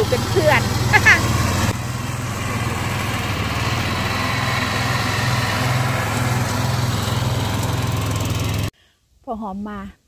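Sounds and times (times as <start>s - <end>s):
ride-on lawn mower engine: 0.0s - 8.7s.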